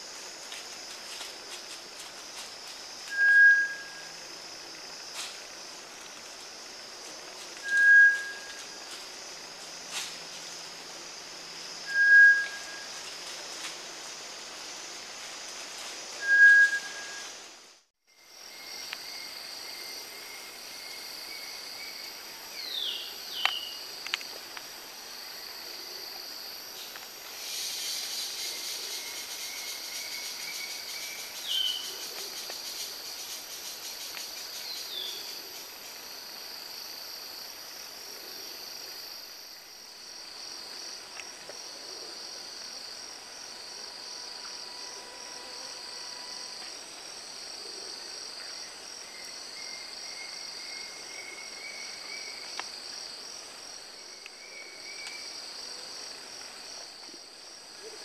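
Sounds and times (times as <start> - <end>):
insects buzzing: 0.0 - 58.0.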